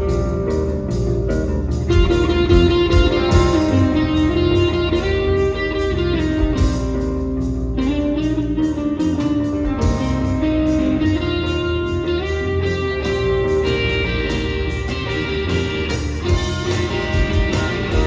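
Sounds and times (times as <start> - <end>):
drum kit beat: 0.0 - 18.0
electric guitars ringing: 0.0 - 18.0.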